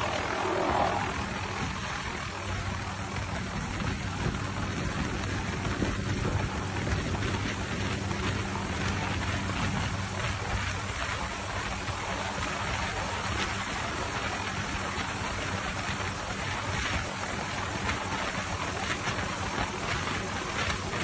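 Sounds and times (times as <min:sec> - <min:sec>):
helicopter hovering: 0:00.0 - 0:21.0.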